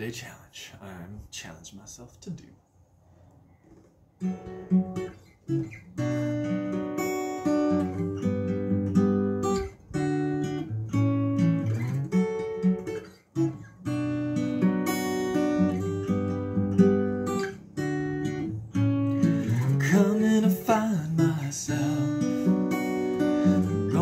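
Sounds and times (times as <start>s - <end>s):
acoustic guitar strumming: 4.2s - 24.0s.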